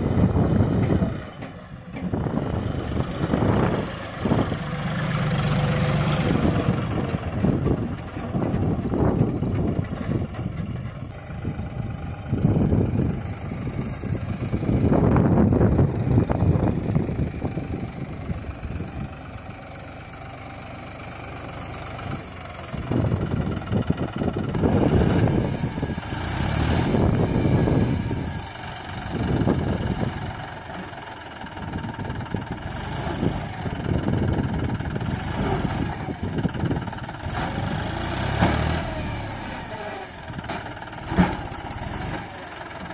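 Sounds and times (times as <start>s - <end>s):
diesel tractor engine revving: 0.0s - 42.9s.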